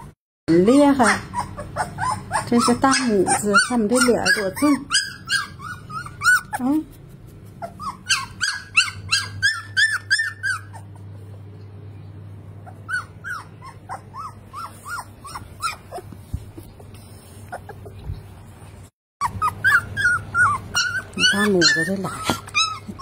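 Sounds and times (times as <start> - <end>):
puppies yelping and whining: 0.0 - 6.8, 7.4 - 11.5, 12.5 - 18.6, 19.2 - 23.0.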